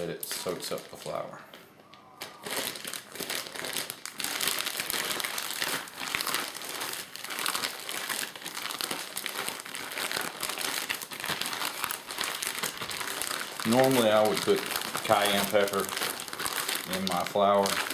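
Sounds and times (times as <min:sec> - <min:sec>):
plastic bag crinkling while shaken: 0:02.2 - 0:17.9.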